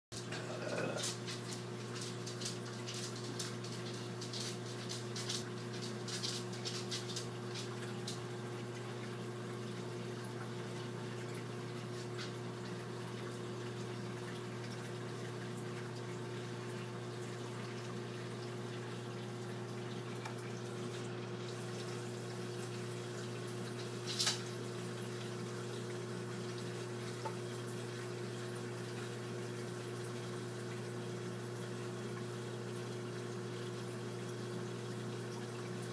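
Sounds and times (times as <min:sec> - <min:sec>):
aquarium pump hum: 0:00.1 - 0:35.9
trickling dripping water: 0:00.2 - 0:35.9.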